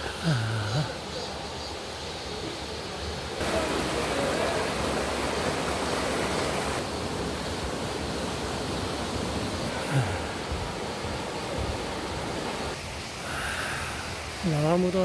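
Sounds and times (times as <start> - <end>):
stream rushing over rocks: 2.0 - 15.0.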